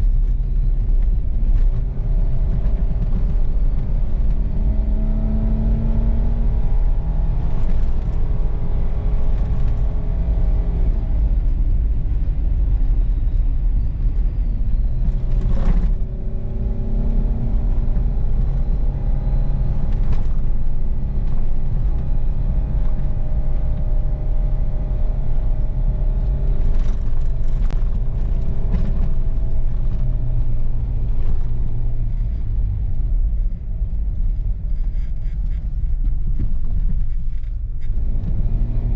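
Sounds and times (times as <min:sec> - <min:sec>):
engine and drivetrain rumble: 0:00.0 - 0:38.9.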